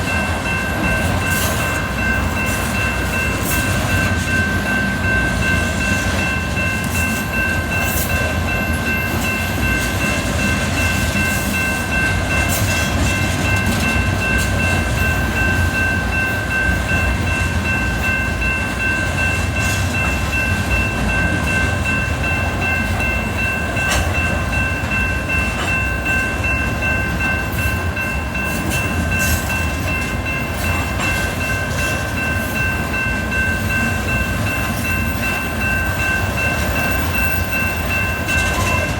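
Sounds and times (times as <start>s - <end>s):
train rumbling past: 0.0s - 38.9s.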